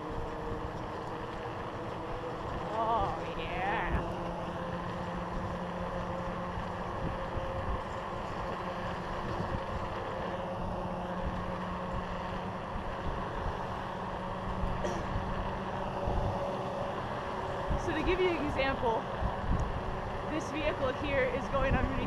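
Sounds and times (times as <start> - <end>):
diesel truck engine droning: 0.0 - 22.0
road and wind noise: 0.0 - 22.0.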